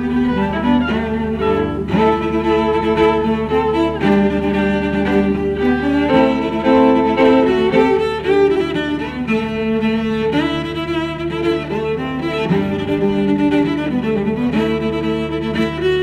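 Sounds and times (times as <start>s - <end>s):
bowed strings music: 0.0s - 16.0s.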